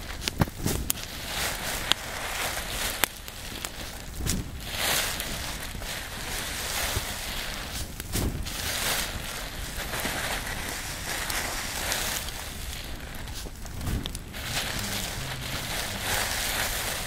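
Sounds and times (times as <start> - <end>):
rushing flame noise: 0.0 - 17.0
sharp fire crackles: 0.0 - 17.0.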